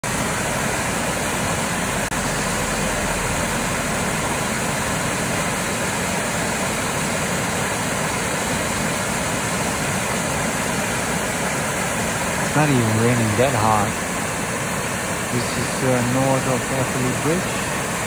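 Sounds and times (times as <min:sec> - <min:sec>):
water rushing and churning: 0:00.0 - 0:18.0.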